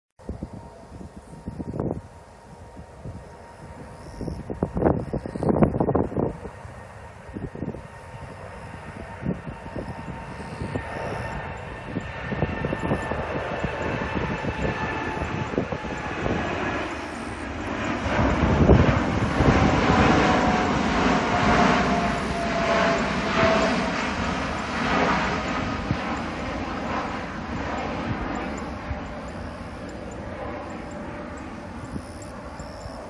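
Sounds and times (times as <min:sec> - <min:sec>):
faint engine whine: 0:00.2 - 0:33.0
jet engines rumbling: 0:00.2 - 0:33.0.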